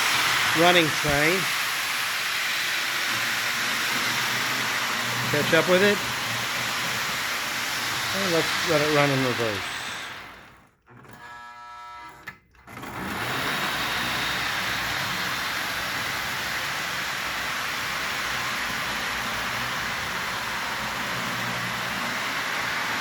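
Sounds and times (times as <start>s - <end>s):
toy train running on track: 0.0s - 10.6s, 13.0s - 23.0s.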